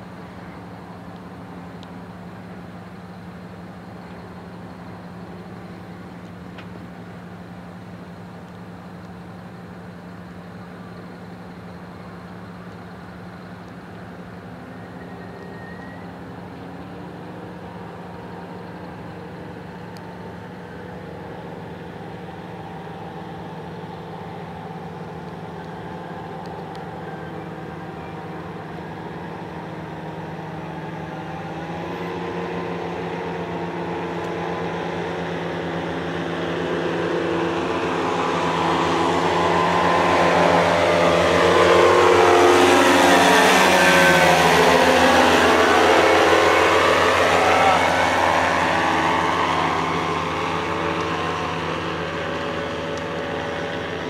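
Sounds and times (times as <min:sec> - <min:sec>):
paraglider engine drone: 0:00.0 - 0:54.0.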